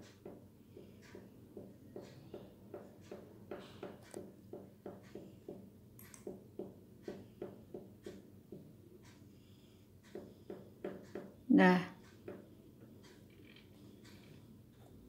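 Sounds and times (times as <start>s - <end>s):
pen tapping and scratching on paper: 0.0s - 9.2s, 10.0s - 15.0s.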